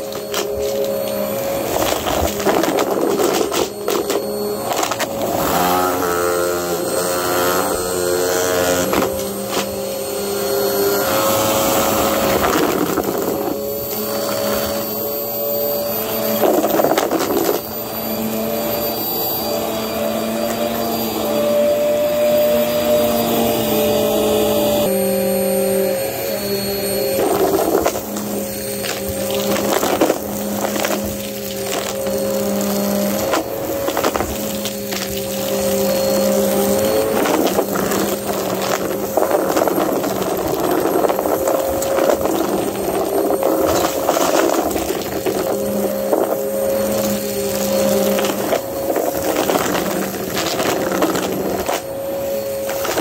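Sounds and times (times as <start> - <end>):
vacuum cleaner motor hum: 0.0 - 53.0.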